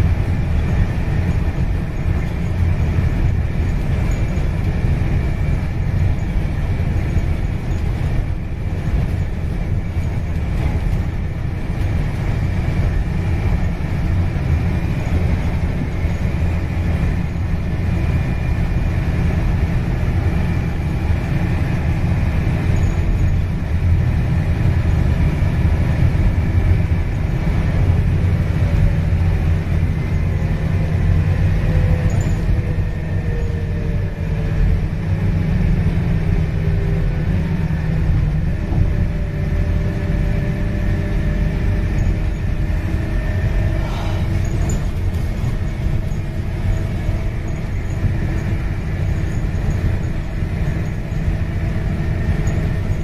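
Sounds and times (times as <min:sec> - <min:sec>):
bus engine droning: 0:00.0 - 0:53.0.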